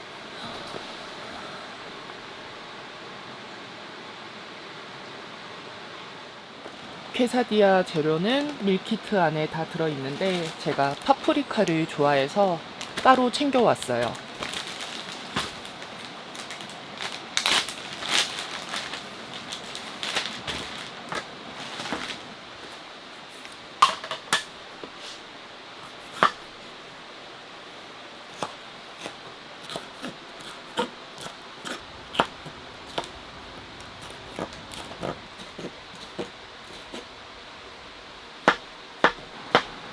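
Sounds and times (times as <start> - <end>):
steady background hiss: 0.0 - 39.9
rustling and handling: 6.6 - 27.0, 27.6 - 39.9.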